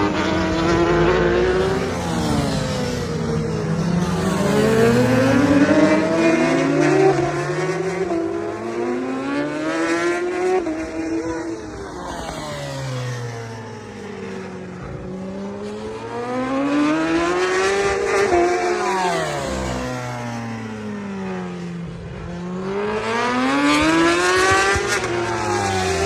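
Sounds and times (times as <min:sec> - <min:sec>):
motorcycle engine revving high: 0:00.0 - 0:26.0.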